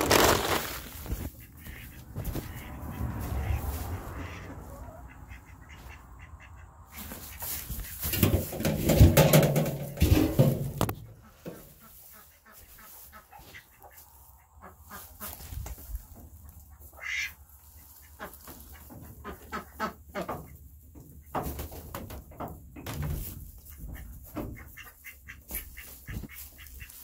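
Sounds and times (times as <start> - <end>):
ducks quacking: 0.1 - 8.6, 10.1 - 21.4, 23.6 - 27.0.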